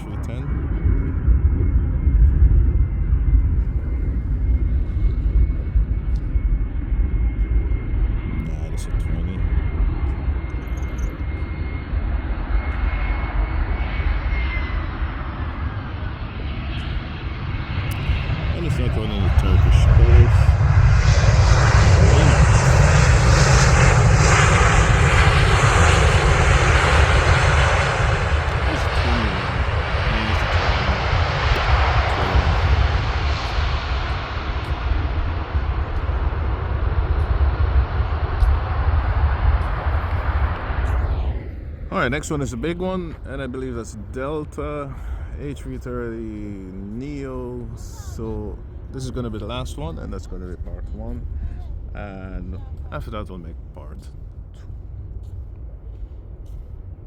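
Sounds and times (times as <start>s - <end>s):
faint high jet whine: 0.0s - 57.0s
jet engine rumble: 0.0s - 57.0s.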